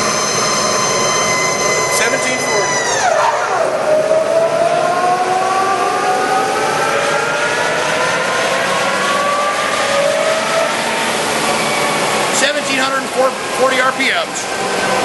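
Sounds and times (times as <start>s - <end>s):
lathe mechanical whine: 0.0s - 15.0s.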